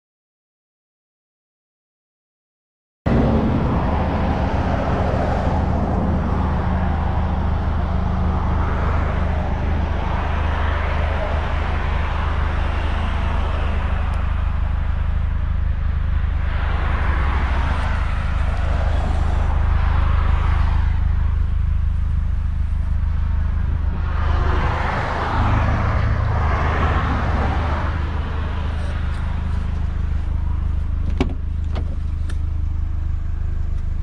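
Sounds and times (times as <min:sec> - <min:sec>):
car engine idling: 0:03.1 - 0:34.0.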